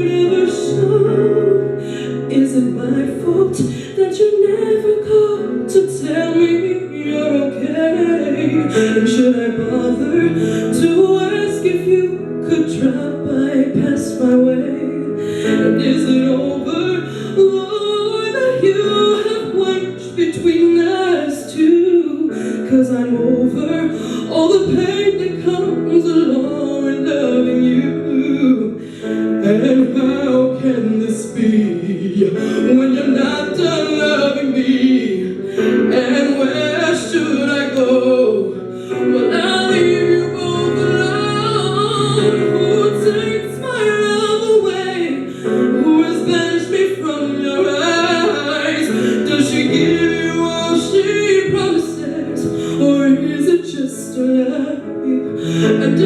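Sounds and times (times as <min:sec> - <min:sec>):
instrumental backing: 0:00.0 - 0:56.0
woman singing: 0:00.0 - 0:56.0.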